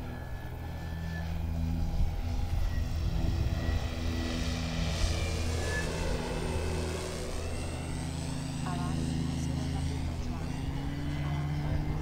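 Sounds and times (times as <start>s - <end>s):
model airplane propeller drone: 0.0s - 12.0s.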